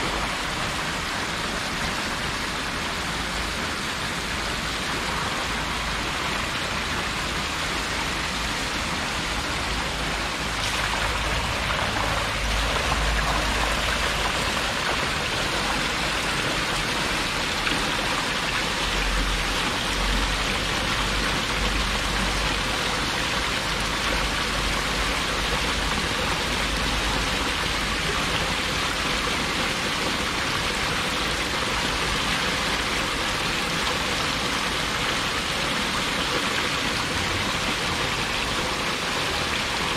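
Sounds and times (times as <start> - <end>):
fish splashing and churning water: 0.0 - 39.9.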